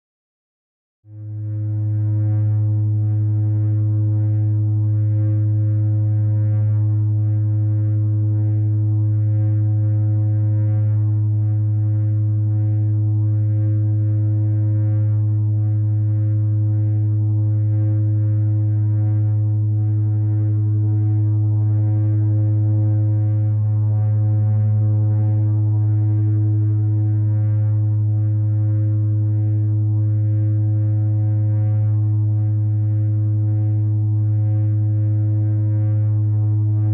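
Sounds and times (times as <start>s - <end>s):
low feedback drone: 1.1s - 36.9s.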